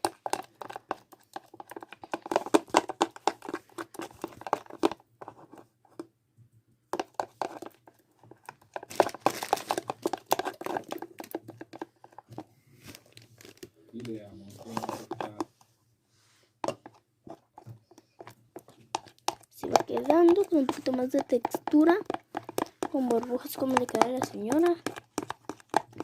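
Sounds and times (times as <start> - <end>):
spoon stirring sticky slime: 0.0 - 5.6, 6.9 - 15.7, 16.6 - 26.0.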